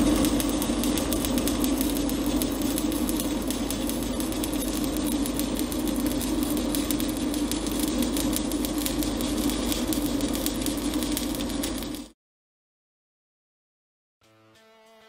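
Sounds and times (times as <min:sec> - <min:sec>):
low hum: 0:00.0 - 0:12.1
welding arc crackling: 0:00.0 - 0:12.2.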